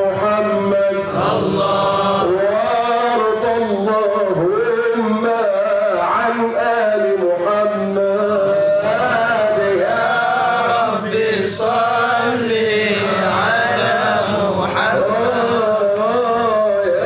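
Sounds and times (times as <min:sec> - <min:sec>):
man chanting melismatic song: 0:00.0 - 0:17.0.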